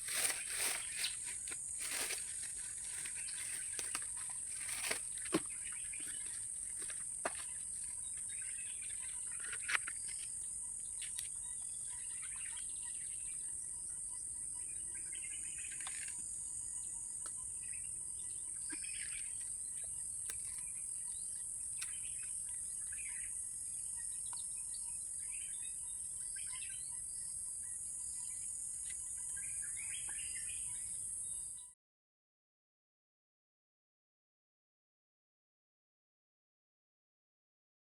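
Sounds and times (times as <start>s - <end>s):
insects droning: 0.0s - 31.6s.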